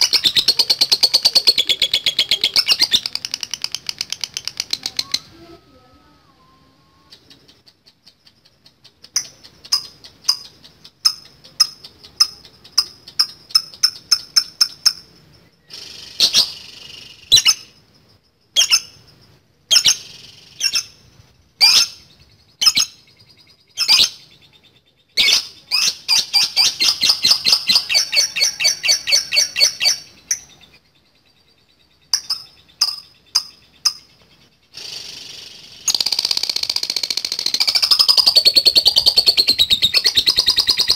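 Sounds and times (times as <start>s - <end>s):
lovebird rapid chatter: 0.0s - 5.5s, 7.1s - 30.8s, 32.0s - 40.9s
lovebird chirping: 0.0s - 40.9s.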